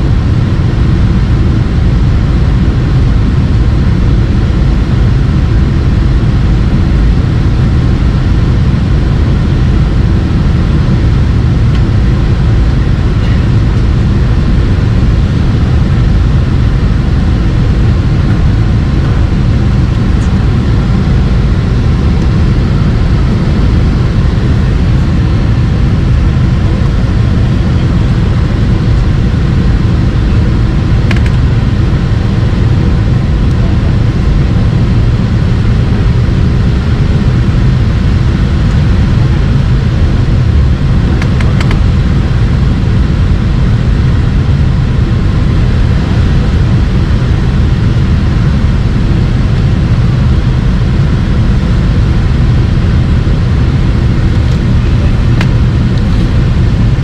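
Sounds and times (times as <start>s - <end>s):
airplane cabin low roar: 0.0s - 57.0s.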